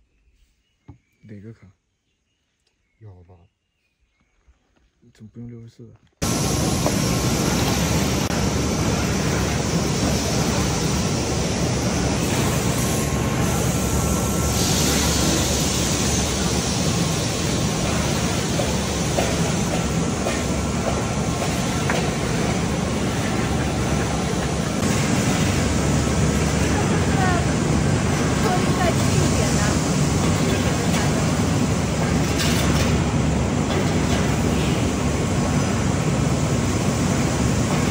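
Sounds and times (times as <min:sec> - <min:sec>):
loud machinery noise: 0:06.2 - 0:37.9.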